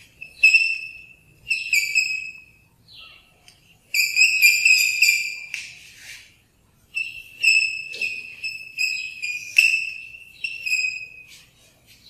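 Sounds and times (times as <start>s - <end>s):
chalk squeaking on blackboard: 0.0s - 2.5s, 3.9s - 12.0s.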